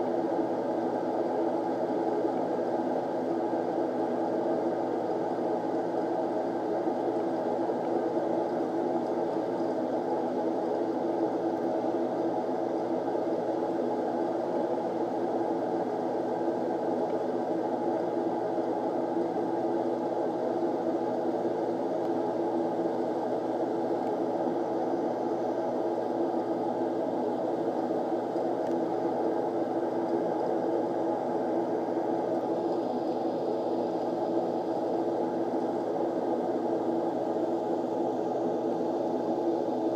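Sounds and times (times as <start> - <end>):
steady whirring hum: 0.0 - 39.9.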